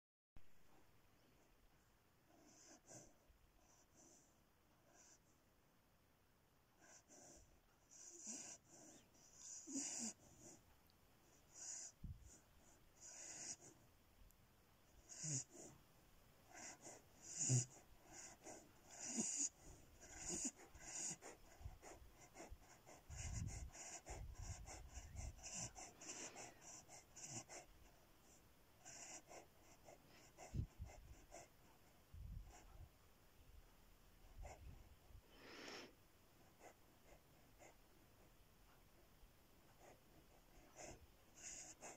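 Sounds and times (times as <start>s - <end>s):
puppy wheezy breathing and sniffs: 2.3s - 5.4s, 6.8s - 10.7s, 11.3s - 13.8s, 15.0s - 15.8s, 16.5s - 32.9s, 34.2s - 39.0s, 39.6s - 41.9s.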